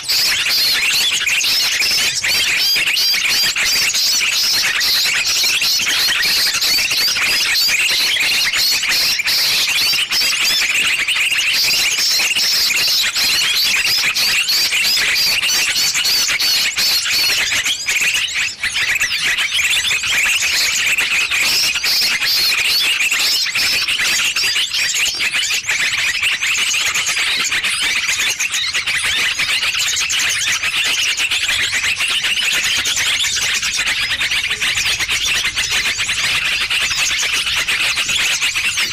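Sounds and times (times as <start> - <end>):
chorus of small birds chirping: 0.0 - 38.9.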